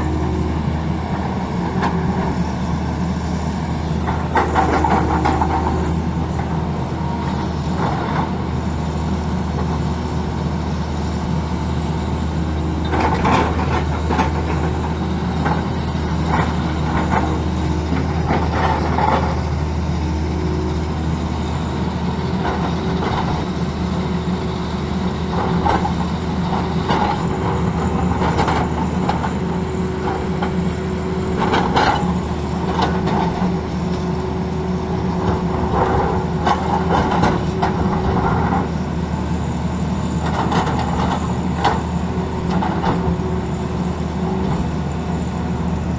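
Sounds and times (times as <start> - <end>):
excavator bucket scraping and clanking: 0.0 - 45.9
excavator diesel engine running: 0.0 - 45.9.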